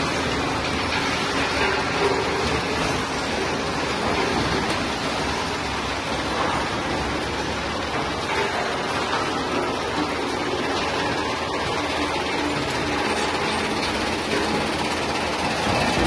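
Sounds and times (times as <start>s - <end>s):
conveyor line running: 0.0s - 16.0s.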